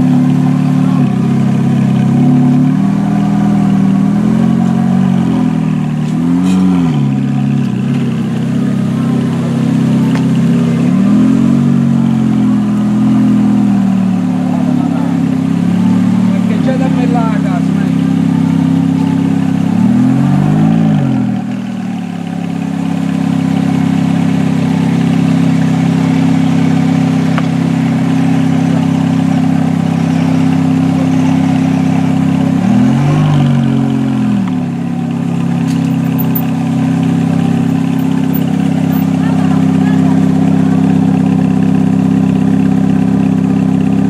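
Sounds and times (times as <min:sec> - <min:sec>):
car engine idling: 0:00.0 - 0:44.0
engine revving: 0:00.0 - 0:44.0.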